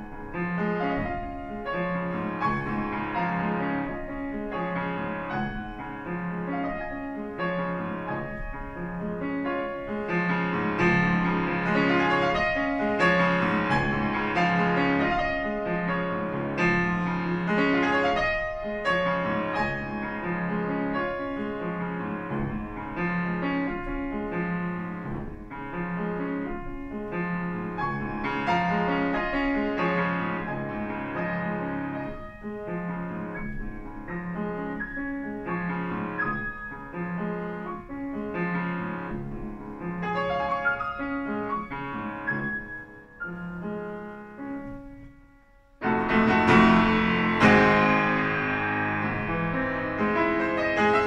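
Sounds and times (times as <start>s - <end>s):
solo grand piano piece: 0.0s - 51.0s.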